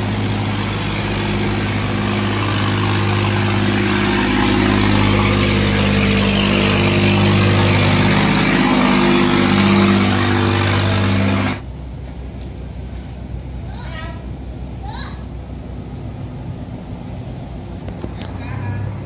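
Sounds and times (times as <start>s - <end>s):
barge engine running hard: 0.0s - 19.0s
rush of churned water: 0.0s - 19.0s
wind: 0.0s - 19.0s.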